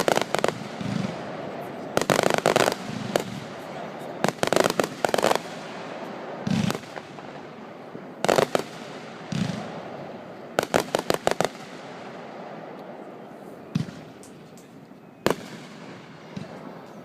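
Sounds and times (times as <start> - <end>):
fireworks bangs: 0.0 - 12.8, 13.6 - 17.0
crackling fireworks reports: 0.0 - 17.0.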